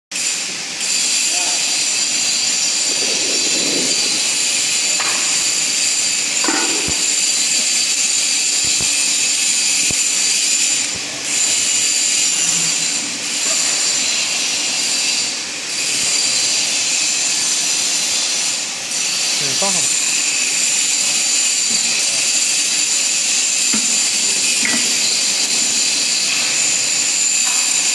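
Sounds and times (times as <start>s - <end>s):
high-pitched machinery whine: 0.2s - 27.9s.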